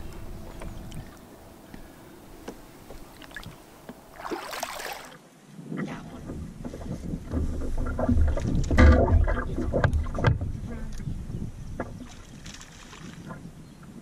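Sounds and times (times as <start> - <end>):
wind rumbling on microphone: 0.0 - 4.2, 5.4 - 14.0.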